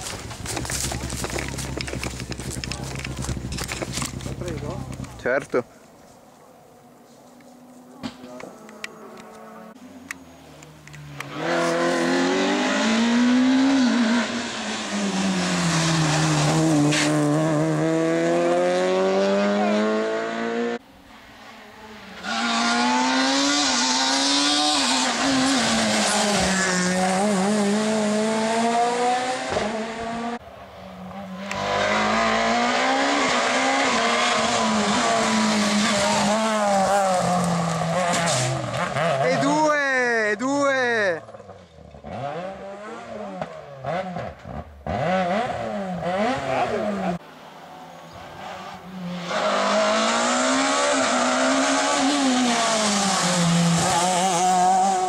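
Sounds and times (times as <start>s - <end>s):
rally car engines revving: 0.0s - 5.6s, 7.5s - 39.8s, 41.2s - 55.0s.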